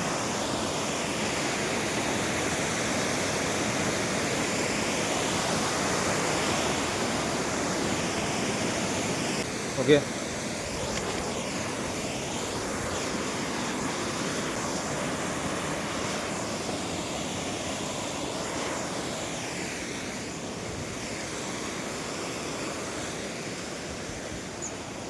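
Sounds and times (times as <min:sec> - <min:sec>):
waterfall rushing water: 0:00.0 - 0:25.0.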